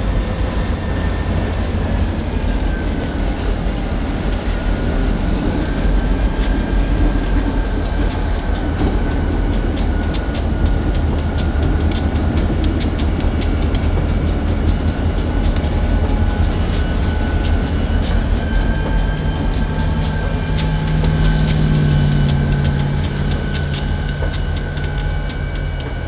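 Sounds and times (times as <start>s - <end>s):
diesel locomotive engines rumbling: 0.0s - 26.0s
wheels clicking over rail joints: 1.7s - 26.0s.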